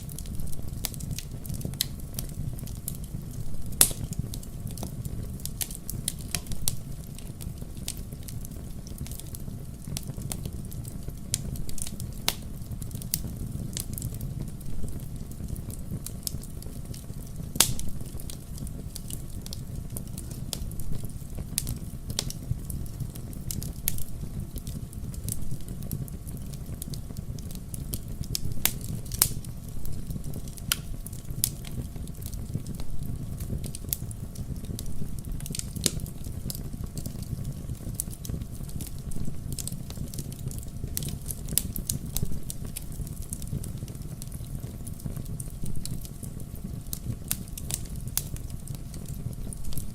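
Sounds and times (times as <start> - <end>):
wood fire pops and snaps: 0.0 - 49.9.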